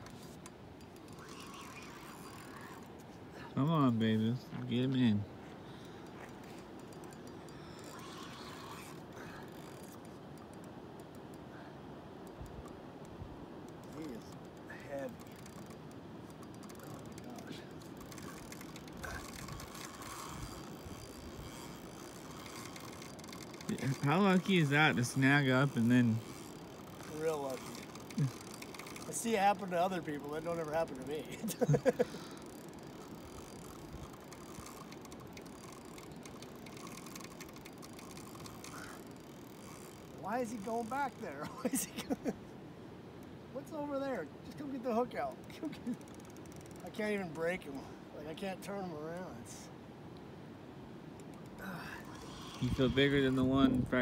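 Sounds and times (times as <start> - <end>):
fishing reel clicking: 0.0 - 2.9, 5.9 - 11.5, 12.2 - 41.8, 45.0 - 47.7, 51.2 - 53.9.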